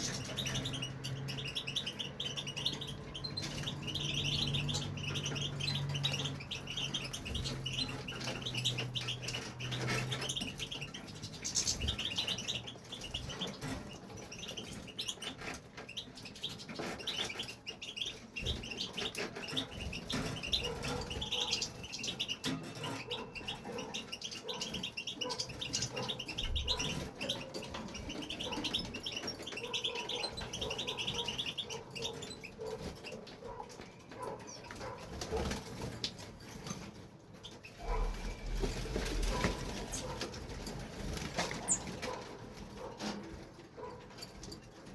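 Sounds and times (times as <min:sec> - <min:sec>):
goldfinch twittering song: 0:00.0 - 0:42.9.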